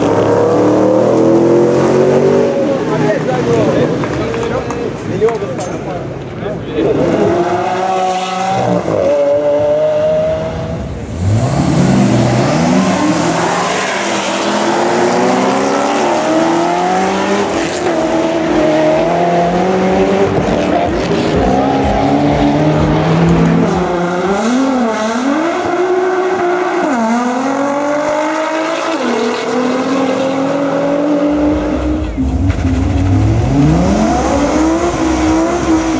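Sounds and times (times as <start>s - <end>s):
drag race engines full throttle: 0.0s - 35.9s.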